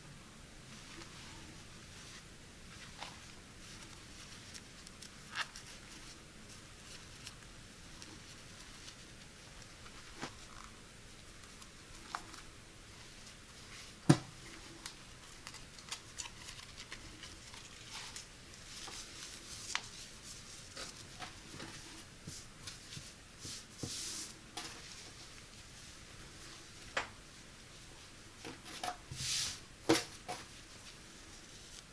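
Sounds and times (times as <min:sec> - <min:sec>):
fabric rustling: 0:00.7 - 0:28.1.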